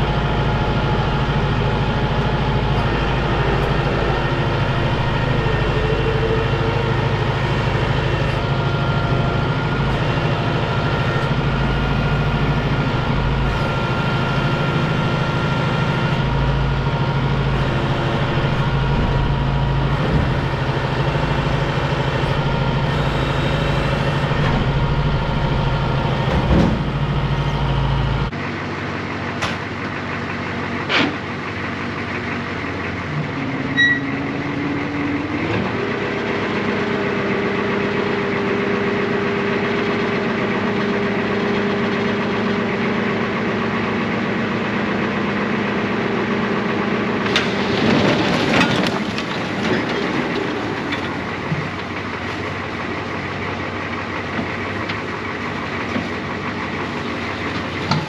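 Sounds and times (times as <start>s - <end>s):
heavy vehicle engine rumbling: 0.0s - 58.0s.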